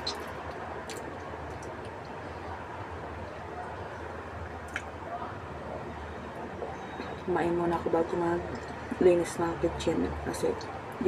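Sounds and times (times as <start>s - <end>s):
steady background hum and hiss: 0.0s - 11.0s.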